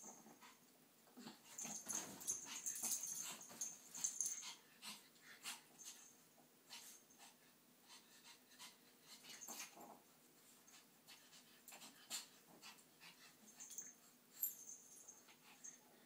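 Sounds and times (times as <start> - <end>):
puppies panting and snuffling: 1.2 - 15.9.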